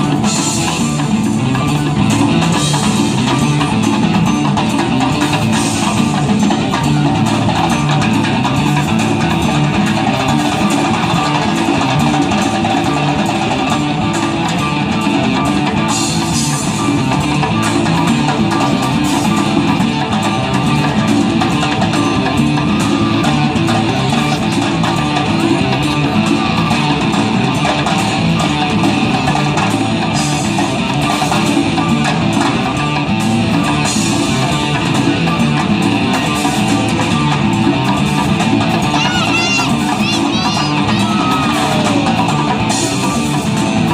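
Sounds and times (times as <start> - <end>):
guitar: 0.0 - 43.9
live band playing: 0.0 - 43.9.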